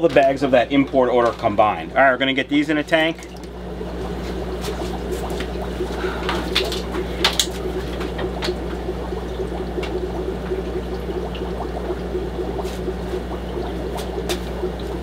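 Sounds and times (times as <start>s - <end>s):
aeration bubbling: 0.0s - 15.0s
air pumps humming: 0.0s - 15.0s.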